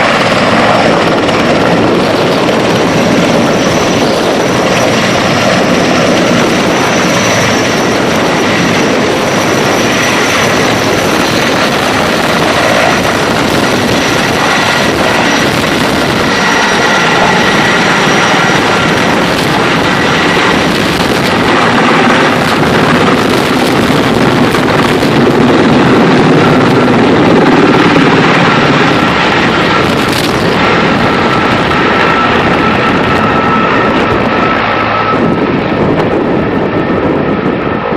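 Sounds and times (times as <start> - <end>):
helicopter rotor and engine: 0.0 - 37.9.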